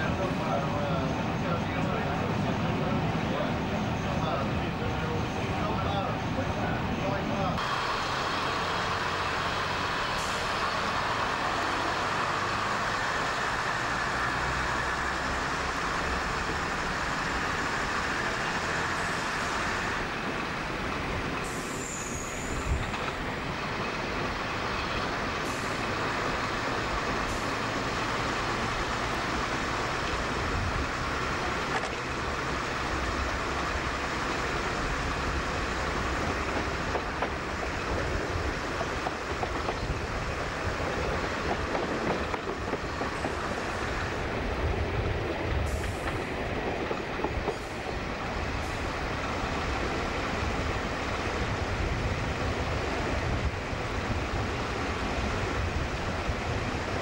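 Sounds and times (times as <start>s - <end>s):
train engine and wheels rumbling: 0.0s - 57.0s.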